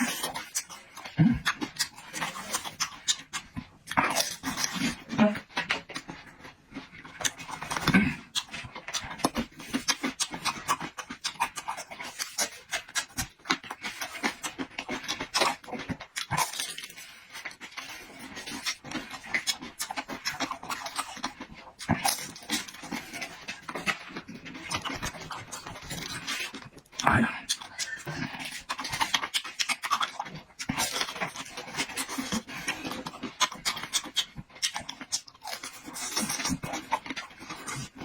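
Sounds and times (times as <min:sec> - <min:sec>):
chewing and lip-smacking: 0:00.0 - 0:38.0.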